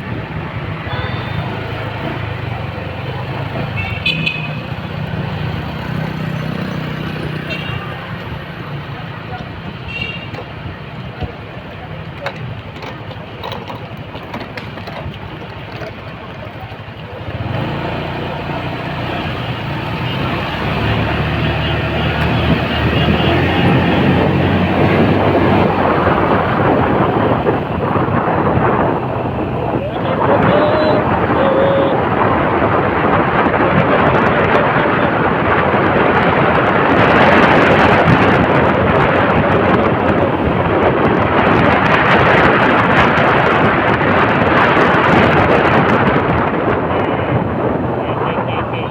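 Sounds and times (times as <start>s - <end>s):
motorcycle engine running: 0.0s - 43.0s
wind buffeting microphone: 0.0s - 48.9s.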